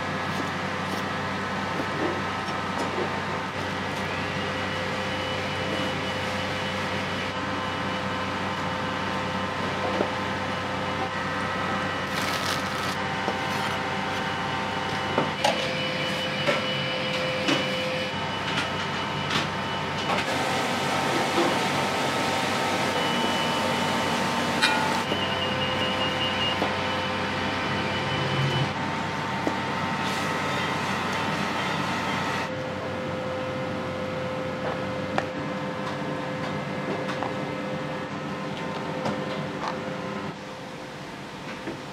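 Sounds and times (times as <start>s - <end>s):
wok range and extractor roar: 0.0s - 41.9s.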